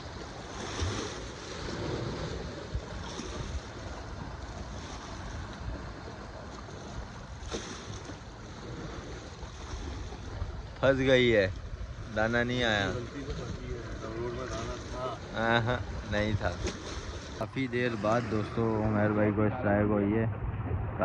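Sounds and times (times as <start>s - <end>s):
sea water surging: 0.0s - 21.0s
wind buffeting microphone: 0.0s - 21.0s.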